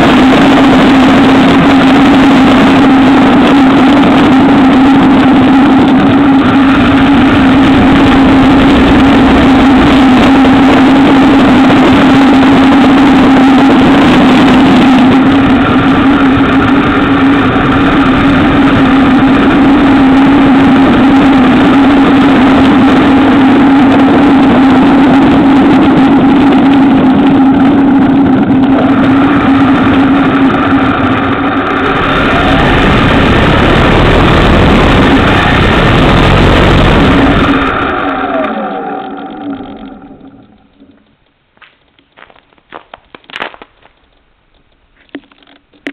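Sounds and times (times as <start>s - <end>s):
electric model plane motor drone: 0.0s - 41.1s.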